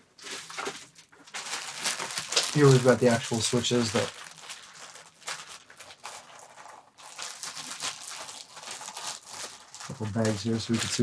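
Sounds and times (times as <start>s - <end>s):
plastic bag crinkling: 0.2s - 11.0s.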